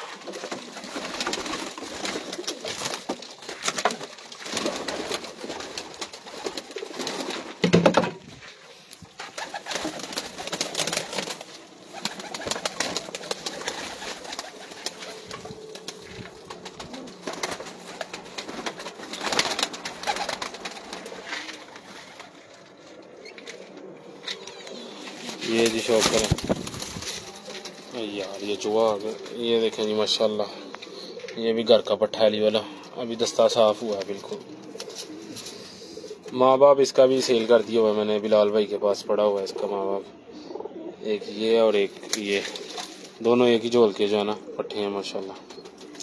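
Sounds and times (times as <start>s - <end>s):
pigeons cooing: 0.0s - 7.6s, 8.4s - 46.0s.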